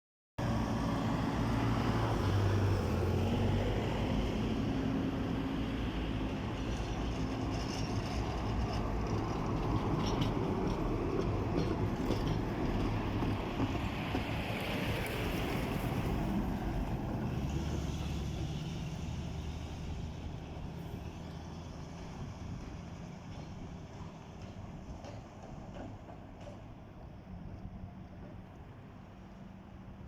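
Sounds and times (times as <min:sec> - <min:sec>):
wheels rumbling on rail: 0:00.4 - 0:30.0.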